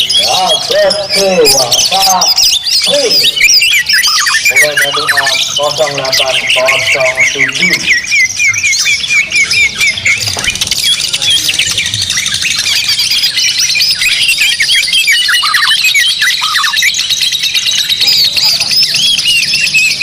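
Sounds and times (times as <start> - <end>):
songbirds chorus of whistles and chirps: 0.0 - 20.0.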